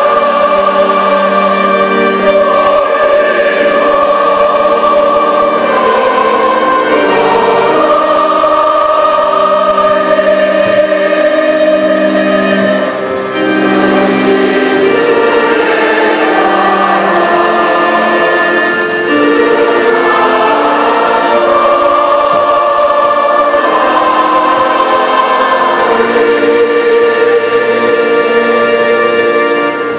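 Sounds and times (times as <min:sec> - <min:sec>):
choir singing a hymn: 0:00.0 - 0:29.9.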